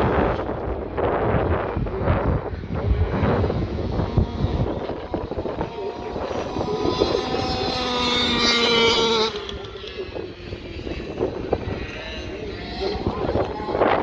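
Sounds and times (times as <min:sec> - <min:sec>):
dirt bike engines revving: 0:00.0 - 0:14.0
wind on microphone: 0:00.0 - 0:14.0.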